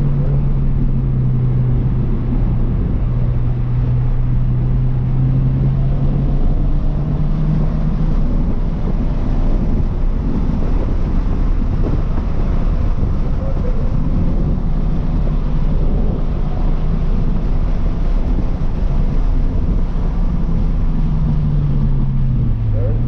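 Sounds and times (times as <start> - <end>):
car engine at speed: 0.0 - 23.0
road and wind noise: 0.0 - 23.0.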